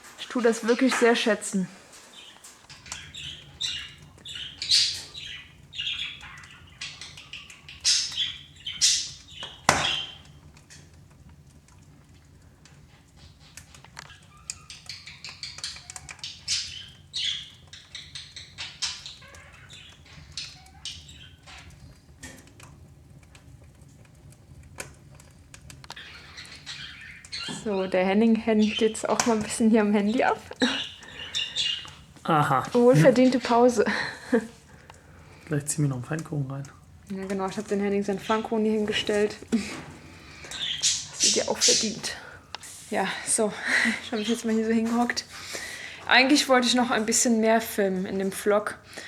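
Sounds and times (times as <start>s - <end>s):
wood fire crackling in stove: 0.0s - 49.0s.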